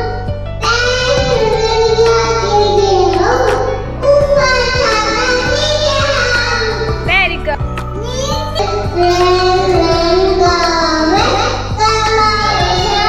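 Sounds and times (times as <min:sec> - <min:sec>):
instrumental backing track: 0:00.0 - 0:13.0
girl singing into a microphone: 0:00.6 - 0:07.1, 0:08.0 - 0:13.0.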